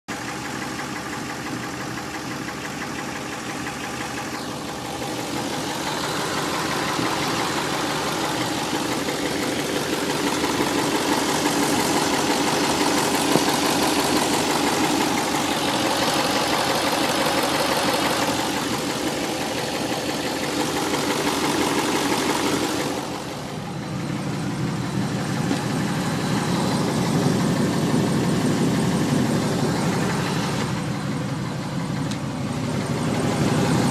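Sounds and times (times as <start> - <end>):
car engine running: 0.1 - 33.9
engine ticking knock: 0.1 - 33.9.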